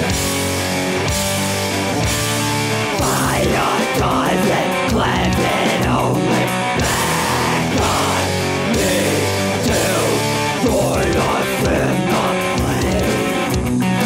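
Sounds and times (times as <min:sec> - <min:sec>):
heavy metal band playing: 0:00.0 - 0:14.0.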